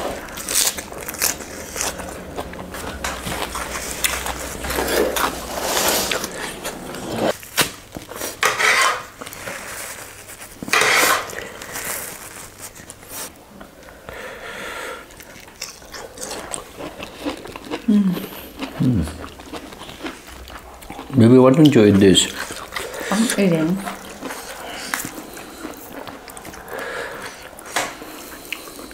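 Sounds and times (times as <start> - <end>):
person chewing food: 0.0 - 28.9.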